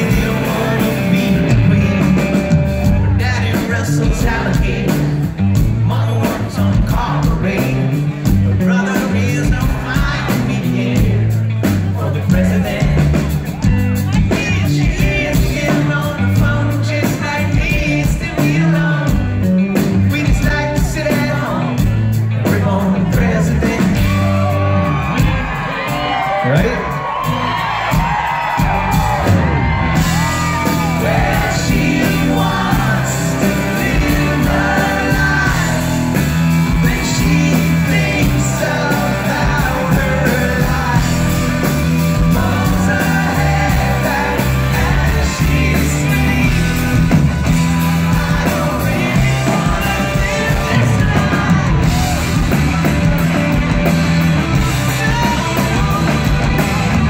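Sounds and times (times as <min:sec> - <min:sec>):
man singing: 0:00.0 - 0:24.7, 0:30.2 - 0:56.8
audience shouting and cheering: 0:00.0 - 0:57.0
rock band playing: 0:00.0 - 0:57.0.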